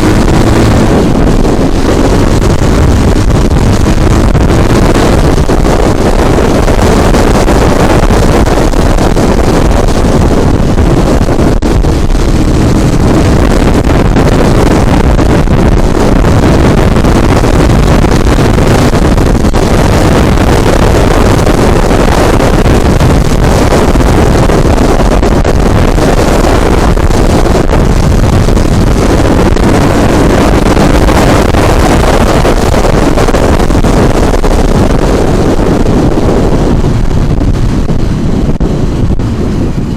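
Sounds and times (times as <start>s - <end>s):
scooter road and motor noise: 0.0s - 39.9s
wind rumble on microphone: 0.0s - 39.9s.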